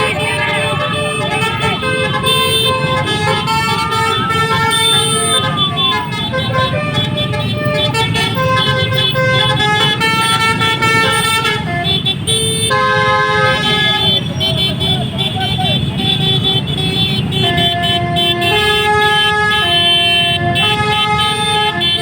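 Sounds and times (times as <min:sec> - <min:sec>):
bus air horn playing a tune: 0:00.0 - 0:22.0
bus engine rumble: 0:00.0 - 0:22.0.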